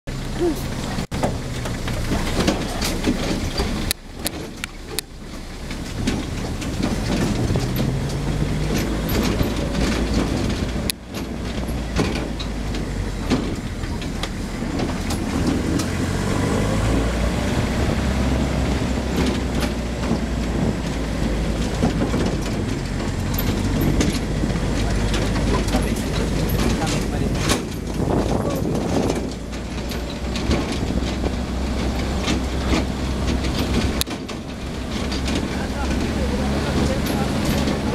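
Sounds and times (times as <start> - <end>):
off-road vehicle engine running: 0.1 - 37.9
vehicle knocks and rattles: 0.1 - 37.9.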